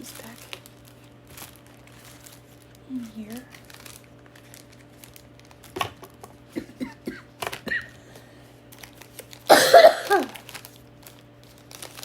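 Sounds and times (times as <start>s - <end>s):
plastic packaging rustling: 0.0s - 6.5s, 8.6s - 12.0s.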